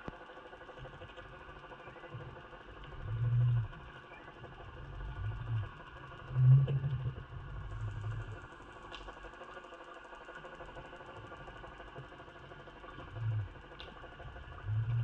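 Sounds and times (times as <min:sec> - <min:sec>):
faint steady hum: 0:00.0 - 0:15.0
muffled underwater water rush: 0:00.8 - 0:15.0.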